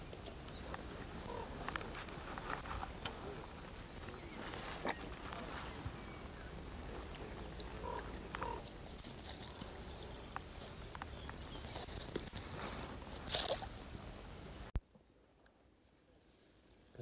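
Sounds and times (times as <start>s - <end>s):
dry reeds crackling and rustling: 0.0s - 14.7s.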